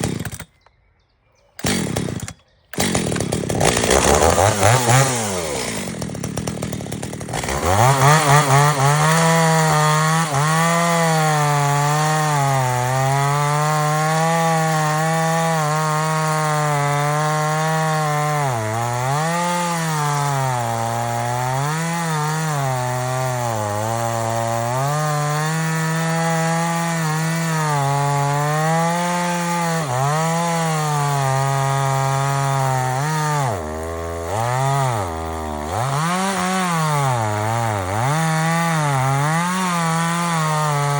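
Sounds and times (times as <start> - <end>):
chainsaw cutting wood: 0.0 - 0.6, 1.6 - 40.9.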